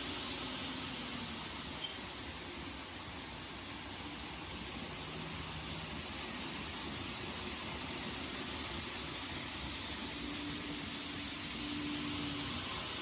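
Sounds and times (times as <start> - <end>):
model train hissing on track: 0.0 - 13.0.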